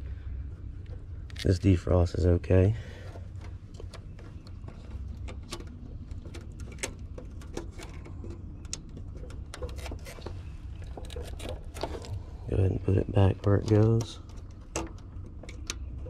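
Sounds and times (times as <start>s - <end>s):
steady low rumble: 0.0s - 16.0s
clicks and rattles of wires: 0.8s - 1.7s, 3.0s - 12.3s, 13.2s - 16.0s.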